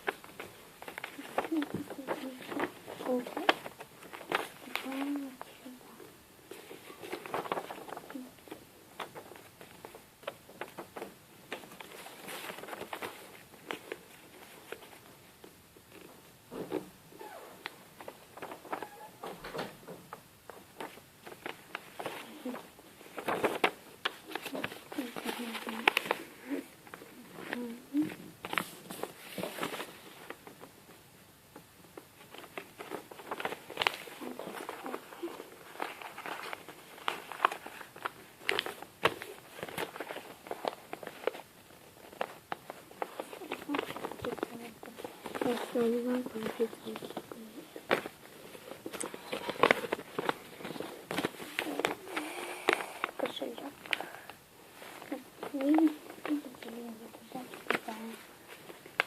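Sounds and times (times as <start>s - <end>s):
paper crinkling and folding: 0.0s - 59.0s.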